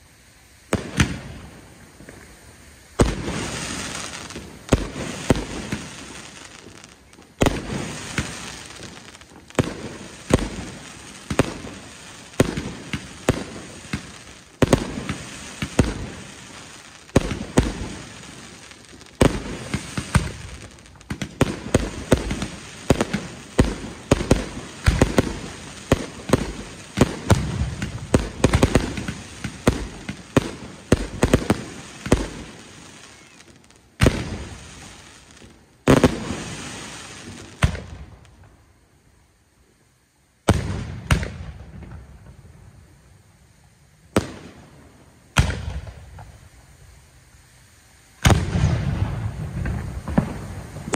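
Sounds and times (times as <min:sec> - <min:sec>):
fireworks crackling: 0:00.0 - 0:50.9
fireworks bangs: 0:00.6 - 0:38.6, 0:40.4 - 0:42.6, 0:44.1 - 0:46.7, 0:48.2 - 0:50.9.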